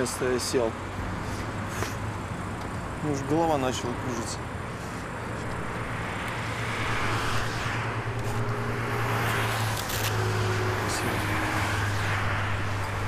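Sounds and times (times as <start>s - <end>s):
highway traffic passing: 0.0s - 13.0s.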